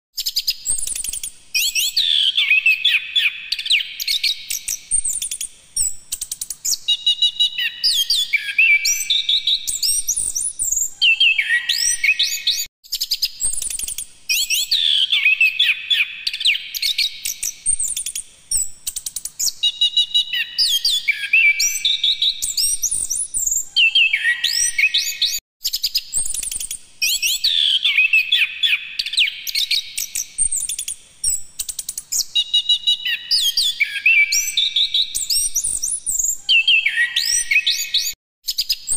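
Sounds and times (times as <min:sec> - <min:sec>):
thrush singing whistled notes: 0:00.2 - 0:18.8, 0:19.4 - 0:38.9.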